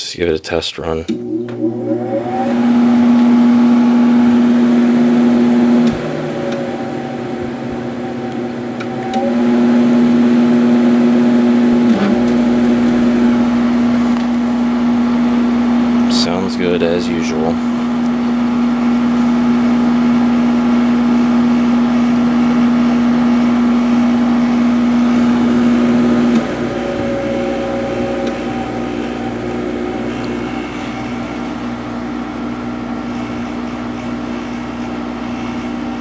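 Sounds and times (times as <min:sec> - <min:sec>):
loud humming tone: 0:01.1 - 0:36.0
air conditioner fan whoosh: 0:01.7 - 0:36.0
low pulsing hum: 0:03.0 - 0:16.1, 0:16.8 - 0:34.1.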